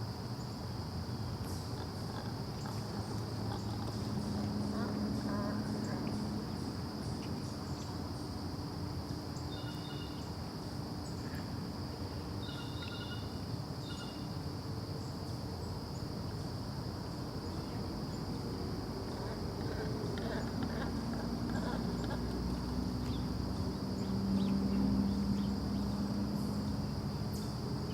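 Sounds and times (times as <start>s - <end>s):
high insect drone: 0.0s - 27.9s
outdoor background noise: 0.0s - 27.9s.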